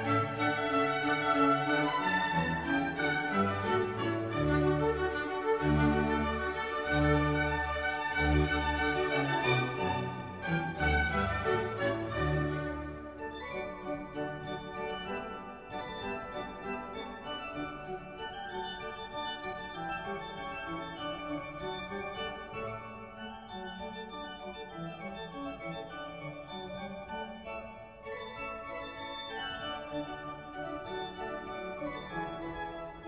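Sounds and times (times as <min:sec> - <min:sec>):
instrumental music with held notes: 0:00.0 - 0:33.0.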